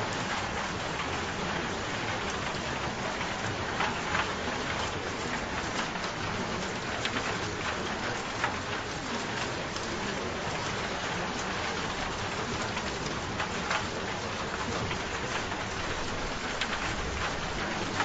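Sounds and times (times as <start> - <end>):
raindrops ticking on a surface: 0.0 - 18.0
steady rain: 0.0 - 18.0.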